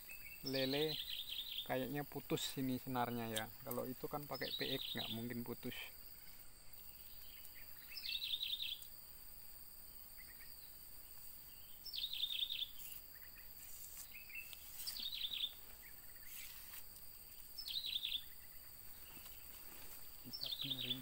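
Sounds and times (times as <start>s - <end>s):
bird singing: 0.0s - 9.0s, 9.9s - 21.0s
high-pitched insect drone: 0.0s - 21.0s.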